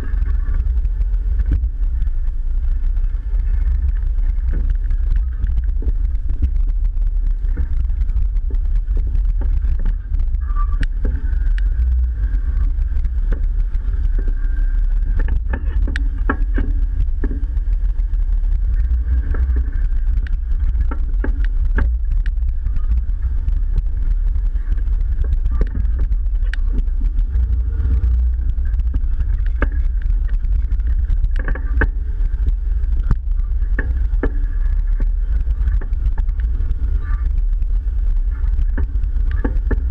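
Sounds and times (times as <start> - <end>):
engine low rumble: 0.0 - 39.9.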